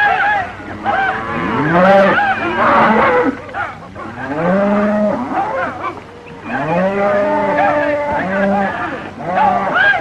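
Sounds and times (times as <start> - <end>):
cattle lowing and bellowing: 0.4 - 10.0.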